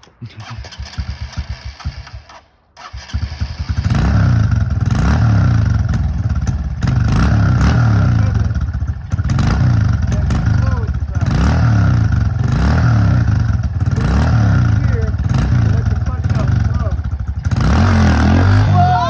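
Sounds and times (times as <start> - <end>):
dirt bike engine revving: 0.3 - 19.0.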